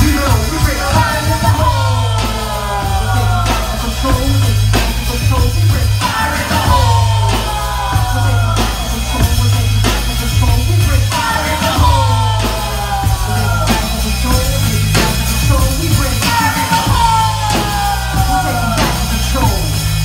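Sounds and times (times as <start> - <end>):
live band playing loud music: 0.0 - 20.0.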